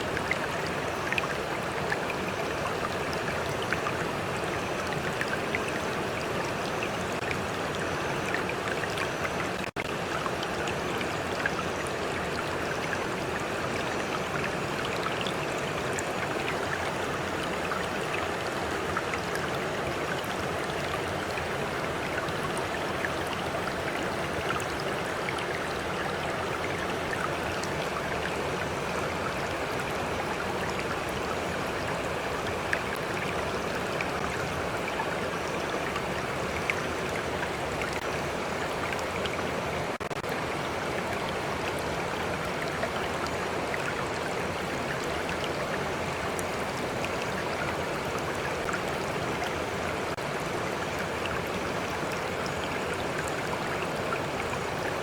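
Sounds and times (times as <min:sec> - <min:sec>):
stream rushing water: 0:00.0 - 0:55.0.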